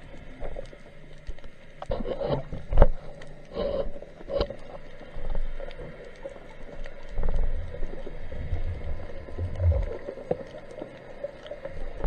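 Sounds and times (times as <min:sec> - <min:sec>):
faint crackle of clicks: 0:00.0 - 0:12.0
underwater rushes and bubbles: 0:00.0 - 0:12.0.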